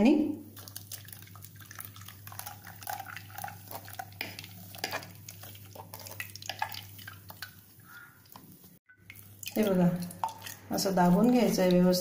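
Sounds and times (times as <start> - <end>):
paste slopping into strainer: 0.6 - 12.0.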